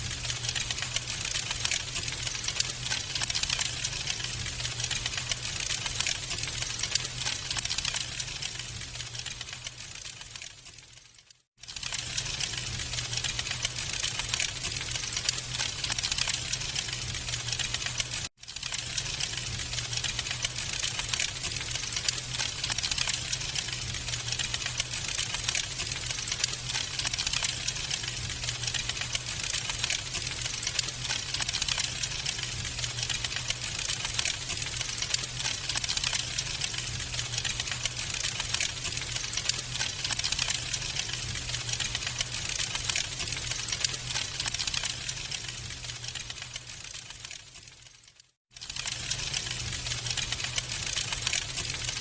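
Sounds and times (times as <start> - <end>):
wood fire crackling: 0.0 - 48.0, 48.6 - 52.0.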